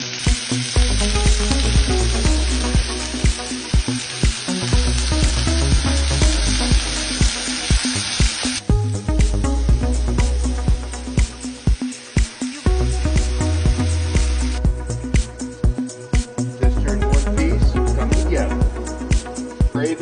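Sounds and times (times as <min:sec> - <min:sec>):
food sizzling in a pan: 0:00.0 - 0:16.6
background music with beat: 0:00.0 - 0:20.0.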